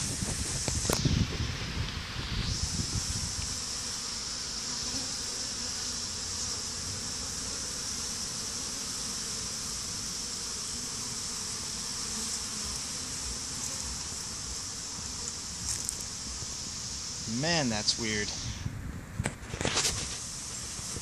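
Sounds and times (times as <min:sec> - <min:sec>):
bees buzzing: 0:00.0 - 0:18.7, 0:19.7 - 0:21.0.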